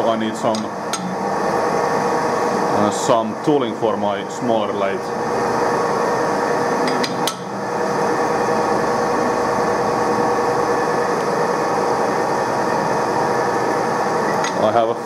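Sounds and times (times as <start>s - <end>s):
machinery whirring: 0.0s - 15.0s.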